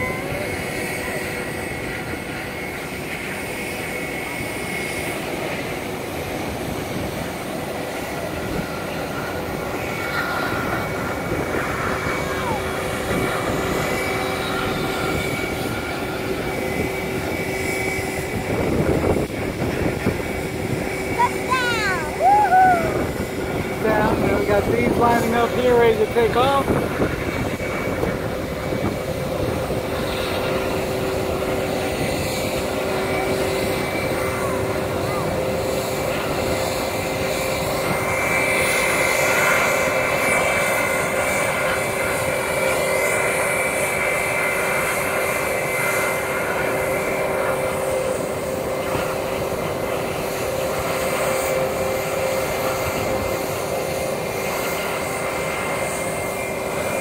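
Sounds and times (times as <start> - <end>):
jet engines rumbling with whine: 0.0 - 57.0.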